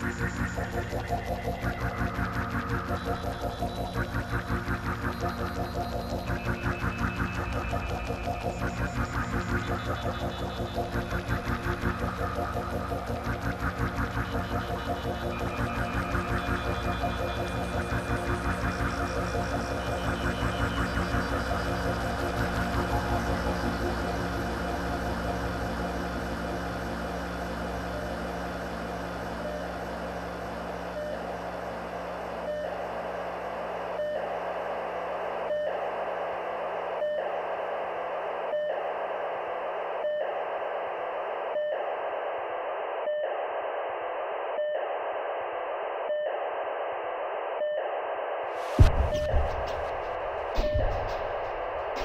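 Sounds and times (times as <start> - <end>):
electronic drone with hiss: 0.0 - 47.6, 48.4 - 52.0.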